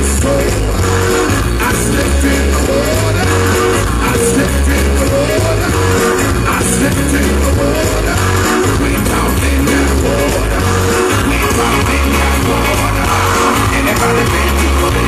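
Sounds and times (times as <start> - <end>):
gospel song with band: 0.0 - 15.0
person singing: 0.0 - 15.0
pulsing bass: 0.0 - 15.0.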